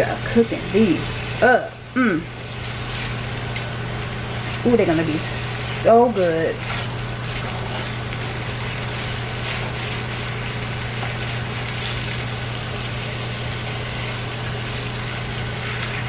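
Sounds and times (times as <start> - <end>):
constant low hum: 0.0 - 16.0
steaks sizzling in a skillet: 0.1 - 16.0.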